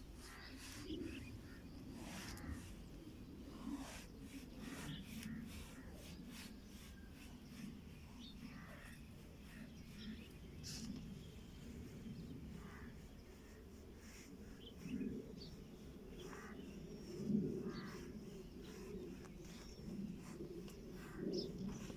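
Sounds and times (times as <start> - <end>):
low bird calls: 0.1 - 21.9.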